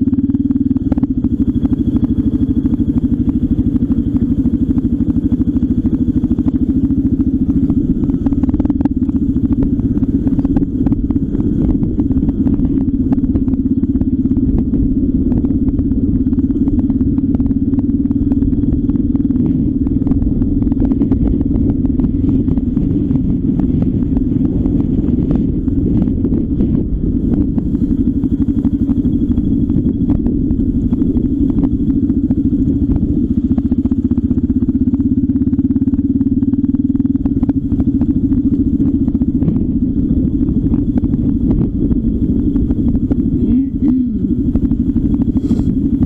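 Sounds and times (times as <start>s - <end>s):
road rumble: 0.0s - 46.0s
vehicle engine humming: 0.0s - 46.0s.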